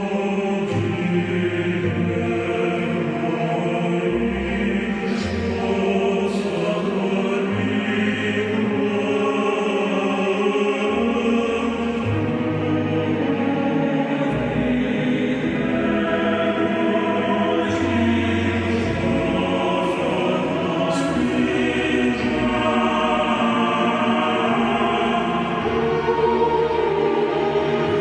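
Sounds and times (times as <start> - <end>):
choir singing held chords: 0.0 - 28.0
steady accompaniment: 0.0 - 28.0.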